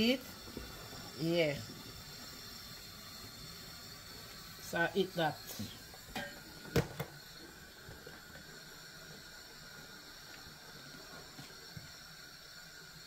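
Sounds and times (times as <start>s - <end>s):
sauce simmering hiss: 0.0s - 13.0s.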